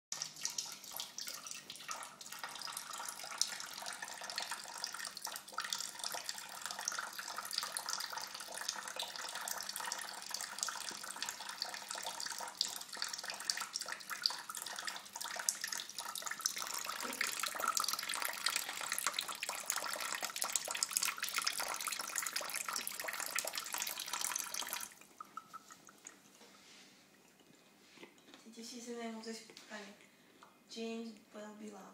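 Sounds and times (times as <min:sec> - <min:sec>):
tap water splashing into sink: 0:00.1 - 0:26.2
cat drinking water splashes: 0:00.1 - 0:26.4.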